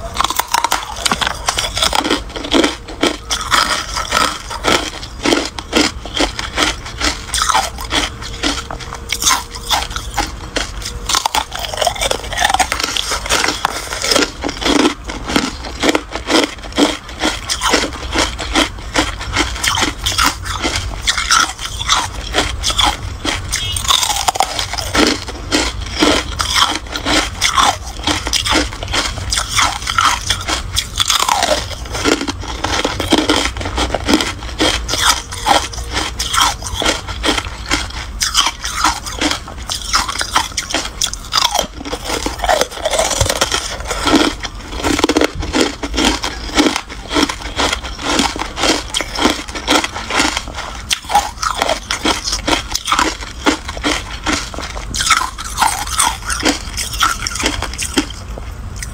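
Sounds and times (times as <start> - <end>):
chewing crunchy ice: 0.0 - 58.9.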